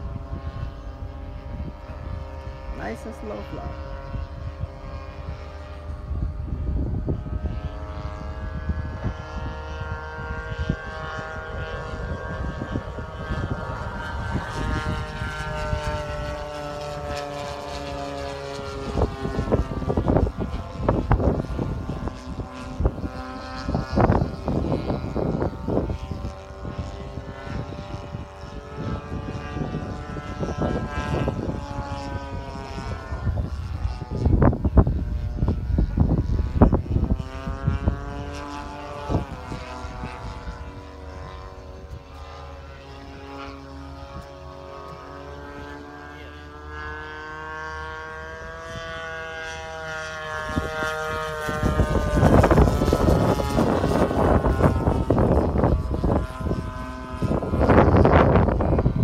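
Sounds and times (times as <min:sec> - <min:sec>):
model plane engine droning: 0:00.0 - 0:59.0.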